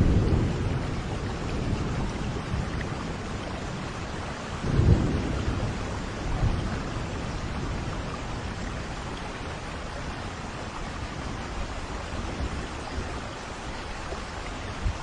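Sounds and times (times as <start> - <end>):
thunder rumbling: 0.0 - 13.6
steady rain falling: 0.0 - 15.0.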